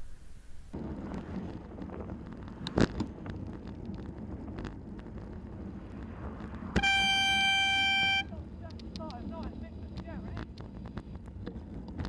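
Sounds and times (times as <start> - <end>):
bicycle tyres on wet road: 0.0 - 12.0
wind buffeting microphone: 0.0 - 12.0.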